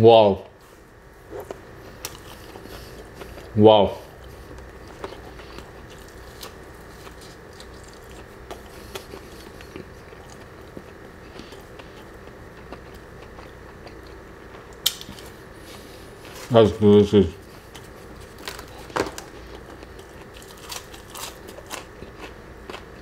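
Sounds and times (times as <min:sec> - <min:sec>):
person chewing: 0:01.3 - 0:16.5, 0:17.4 - 0:23.0.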